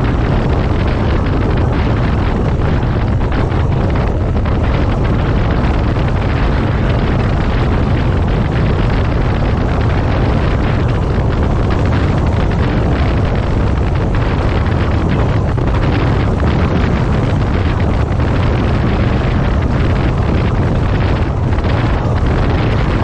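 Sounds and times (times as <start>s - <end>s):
motorcycle engine cruising: 0.0s - 23.0s
wind rumble on microphone: 0.0s - 23.0s.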